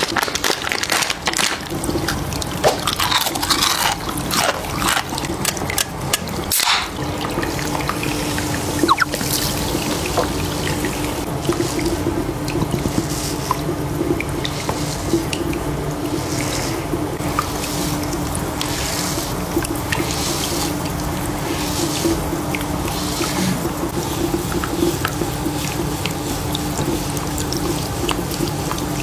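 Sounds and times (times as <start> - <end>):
water dripping: 0.0 - 29.0
water splashing and trickling: 0.0 - 29.0.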